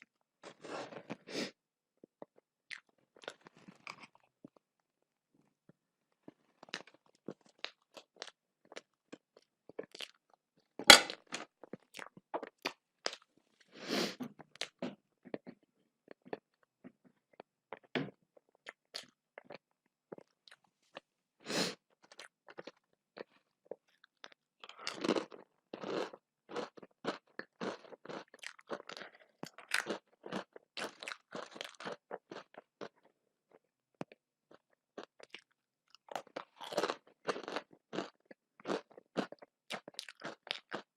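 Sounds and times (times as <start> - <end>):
person chewing crunchy food: 0.1 - 4.8, 6.1 - 40.9.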